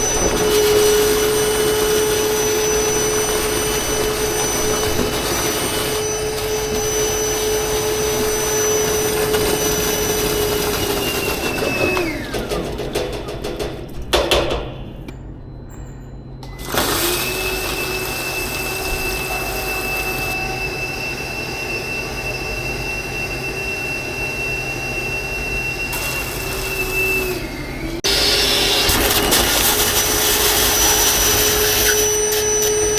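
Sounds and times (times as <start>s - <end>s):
motor-driven machine whining: 0.0s - 12.8s, 16.4s - 32.9s.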